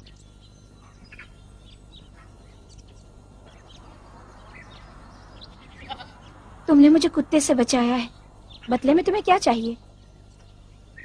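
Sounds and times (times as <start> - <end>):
bird chirps: 0.0 - 11.0
faint outdoor ambience: 0.0 - 11.0.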